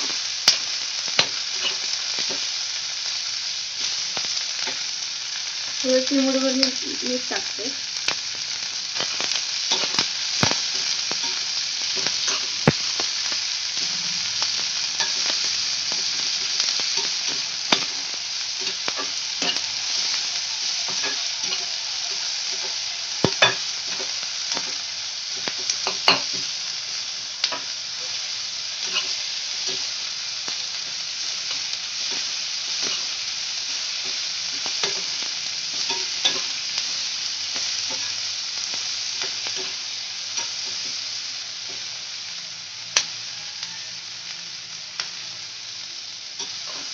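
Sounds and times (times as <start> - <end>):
onions sizzling in oil: 0.0 - 46.9.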